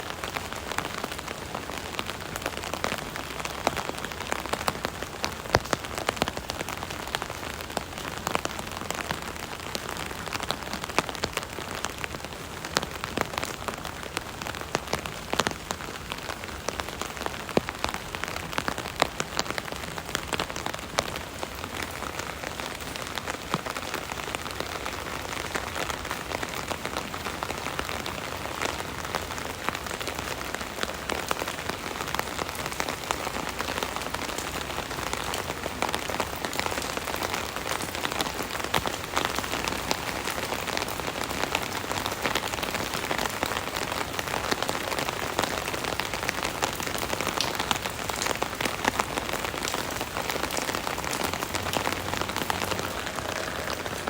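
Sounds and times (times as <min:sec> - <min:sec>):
rain pattering on an umbrella: 0:00.0 - 0:54.0.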